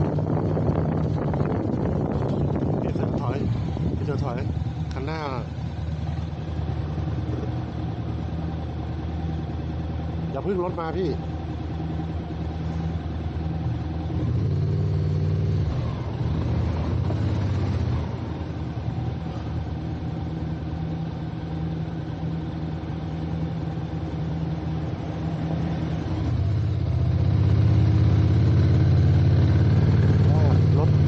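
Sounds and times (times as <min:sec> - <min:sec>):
car engine hum: 0:00.0 - 0:31.0.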